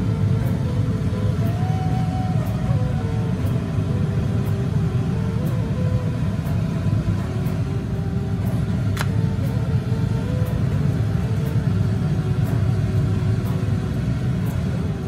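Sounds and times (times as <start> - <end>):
faint flute melody: 0.0 - 15.0
steady low rumble: 0.0 - 15.0.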